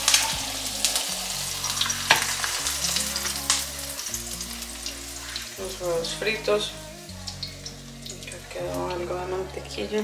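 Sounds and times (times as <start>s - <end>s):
eggs sizzling in a frying pan: 0.0s - 10.0s.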